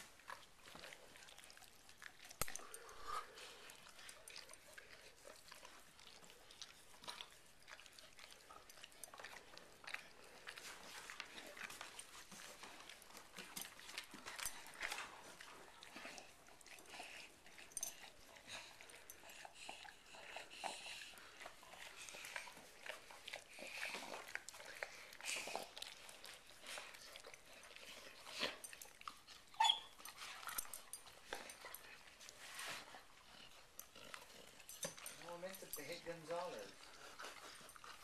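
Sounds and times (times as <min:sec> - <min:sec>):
dogs licking and smacking: 0:00.0 - 0:38.0.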